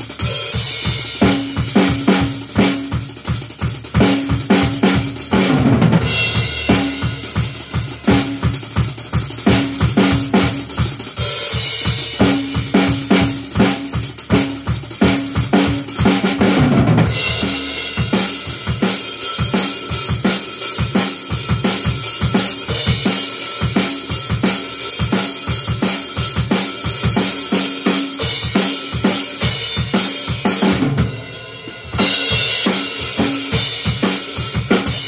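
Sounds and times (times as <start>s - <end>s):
drum kit fast beat: 0.0s - 35.0s.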